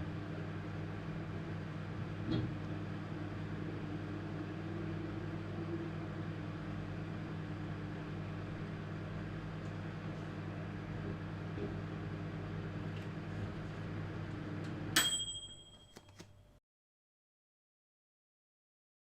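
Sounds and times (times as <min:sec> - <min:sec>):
microwave oven humming: 0:00.0 - 0:16.6.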